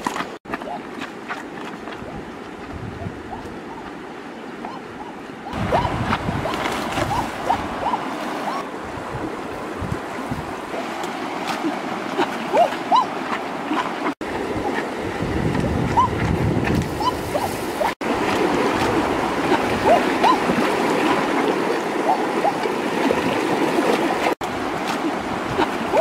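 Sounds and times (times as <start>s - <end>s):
river water splashing: 0.0s - 26.0s.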